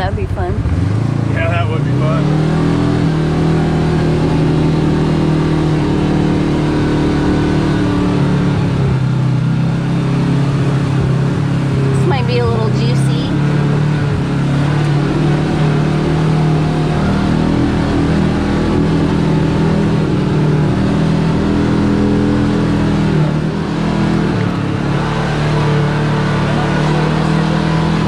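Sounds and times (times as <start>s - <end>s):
utv engine running: 0.0s - 28.0s.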